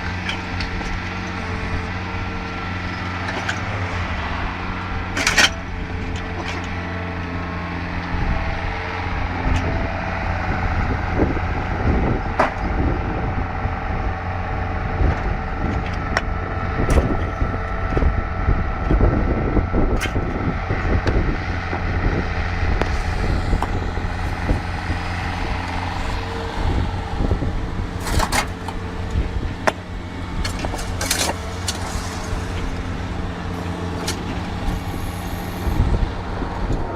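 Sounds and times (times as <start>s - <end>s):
heavy diesel machinery engine: 0.0s - 36.9s.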